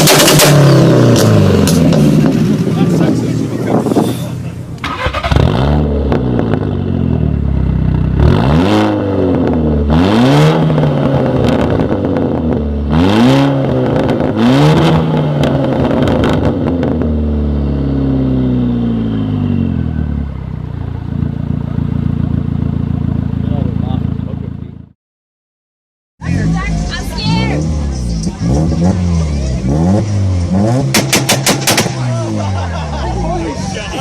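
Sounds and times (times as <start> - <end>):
car engine revving: 0.0 - 24.8, 26.2 - 34.0.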